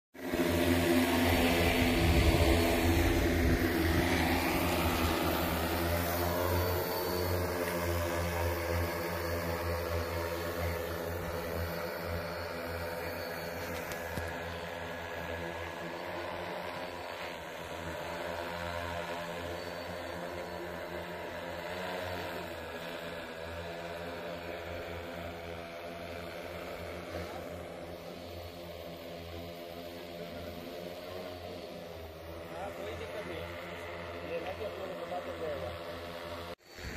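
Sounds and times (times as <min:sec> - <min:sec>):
drone propellers humming: 0:00.2 - 0:36.9.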